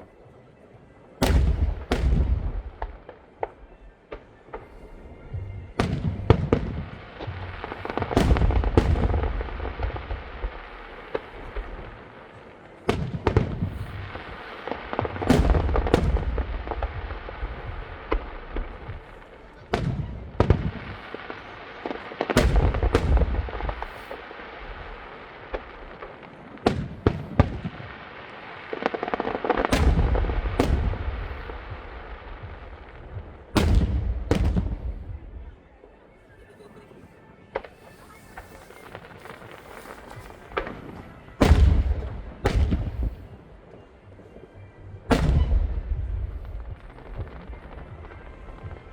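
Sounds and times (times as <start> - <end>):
low rumble of fireworks: 0.0 - 48.9
fireworks bursting with bangs: 1.1 - 35.8, 37.5 - 48.9.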